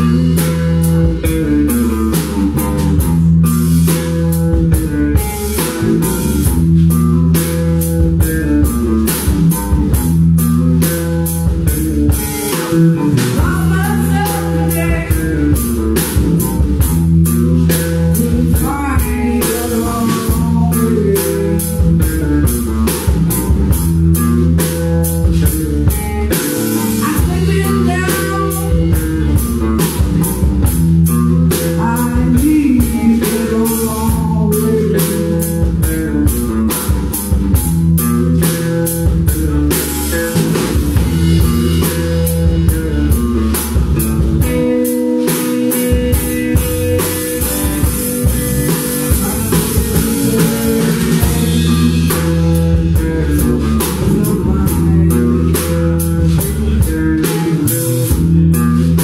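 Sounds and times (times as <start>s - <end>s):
bass line: 0.0s - 59.0s
drum kit with cymbal hits: 0.0s - 59.0s
electric guitars: 0.0s - 59.0s.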